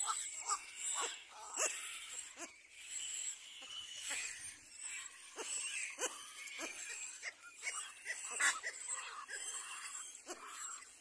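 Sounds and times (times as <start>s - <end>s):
cormorant chicks begging calls: 0.0s - 11.0s.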